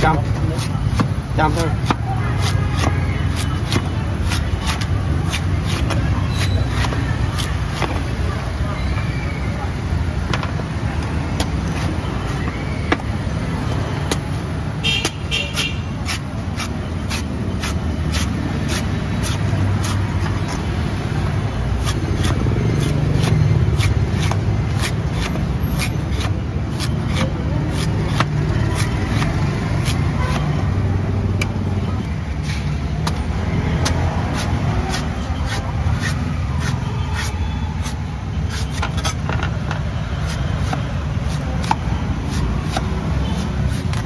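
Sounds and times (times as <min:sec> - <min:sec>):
knife chopping coconut husk: 0:00.0 - 0:08.2, 0:11.3 - 0:30.6, 0:32.4 - 0:44.0
street traffic rumble: 0:00.0 - 0:44.0.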